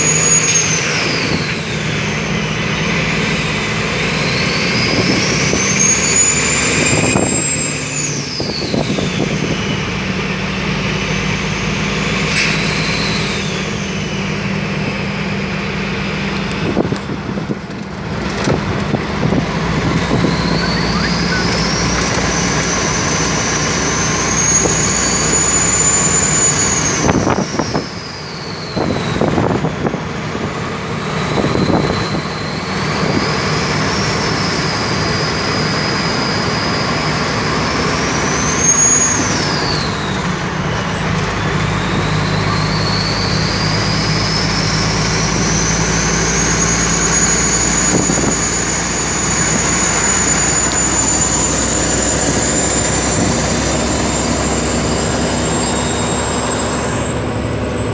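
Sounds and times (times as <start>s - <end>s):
turbocharger whistle: 0.0s - 15.3s, 19.2s - 57.9s
diesel engine drone: 0.0s - 57.9s.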